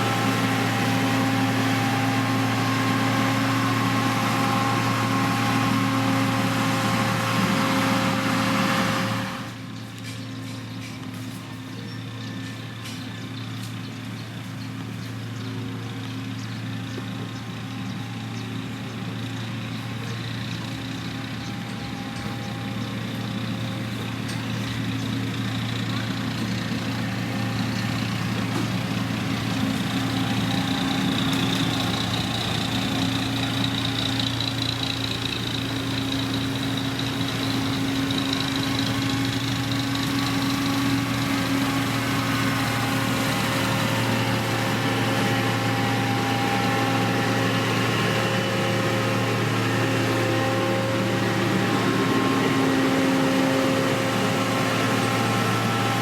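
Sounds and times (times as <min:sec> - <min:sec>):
heavy diesel machine running: 0:00.0 - 0:56.0.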